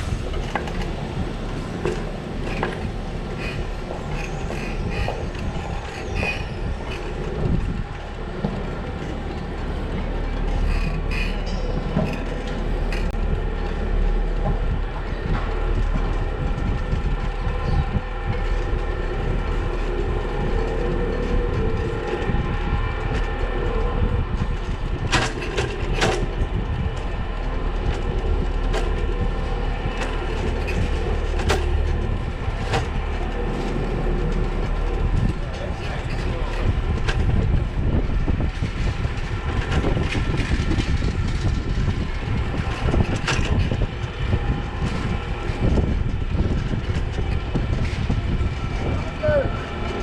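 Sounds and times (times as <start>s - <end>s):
bicycle rumbling and rattling: 0.0s - 50.0s.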